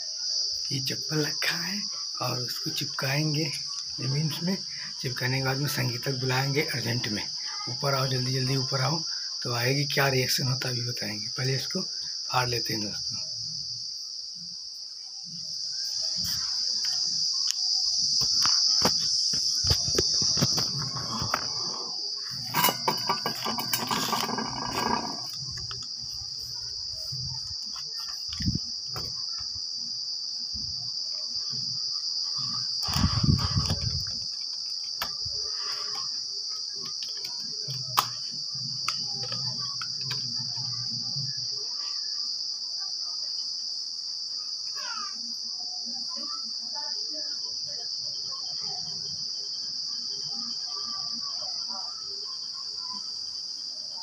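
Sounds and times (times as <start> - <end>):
insects chorus: 0.0 - 54.0.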